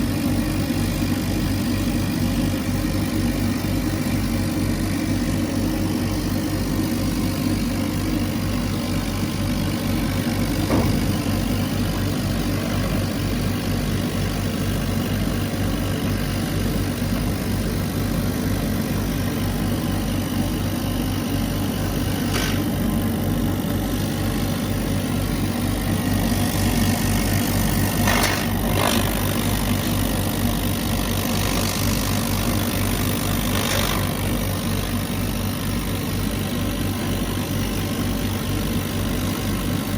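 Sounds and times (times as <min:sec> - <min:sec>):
laser cutter droning: 0:00.0 - 0:39.9.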